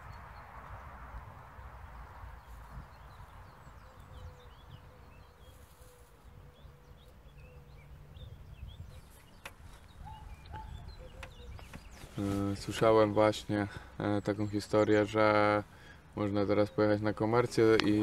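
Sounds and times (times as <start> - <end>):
faint birds chirping: 0.0 - 18.0.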